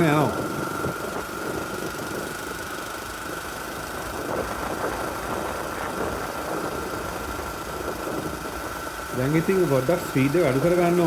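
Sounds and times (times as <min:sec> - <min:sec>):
dirt bike engine running: 0:00.0 - 0:11.0
road and wind noise: 0:00.0 - 0:11.0
thin steady whine: 0:00.0 - 0:11.0.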